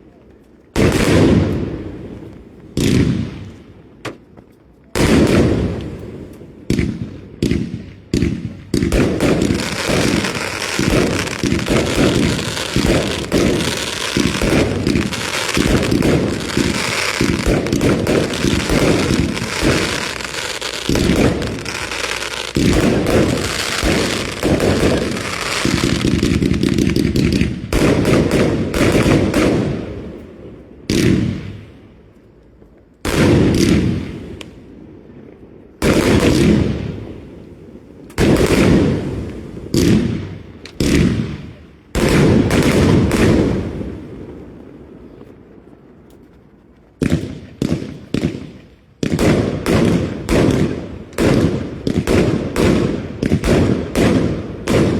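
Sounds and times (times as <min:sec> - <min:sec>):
fireworks crackling: 0:00.0 - 0:30.3, 0:35.8 - 0:54.9
fireworks bangs: 0:00.6 - 0:31.9, 0:33.0 - 0:54.9.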